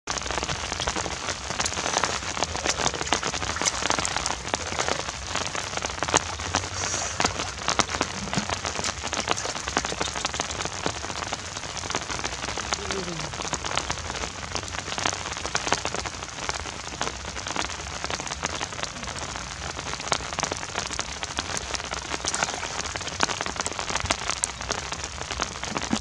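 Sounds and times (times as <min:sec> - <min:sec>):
rain falling on water: 0:00.1 - 0:26.0.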